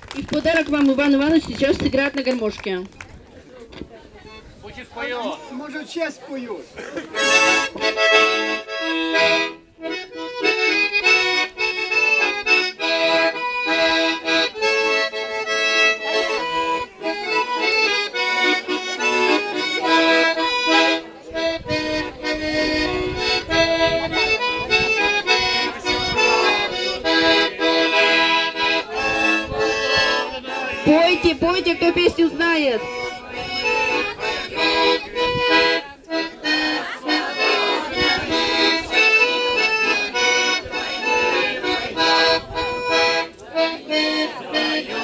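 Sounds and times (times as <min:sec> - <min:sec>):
button accordion folk tune: 0:04.1 - 0:45.0.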